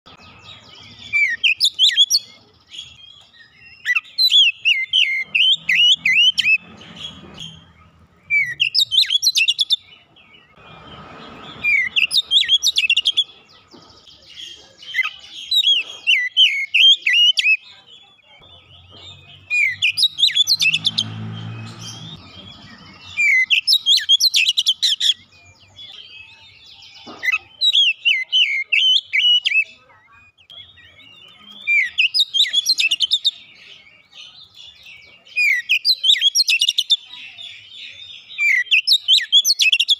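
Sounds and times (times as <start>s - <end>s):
bird song chirps and whistles: 0.1s - 39.9s.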